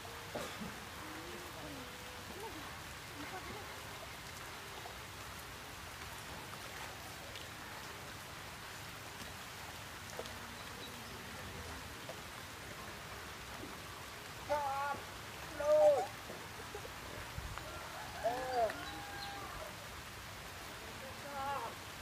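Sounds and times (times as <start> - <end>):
outdoor noise hiss: 0.0 - 22.0.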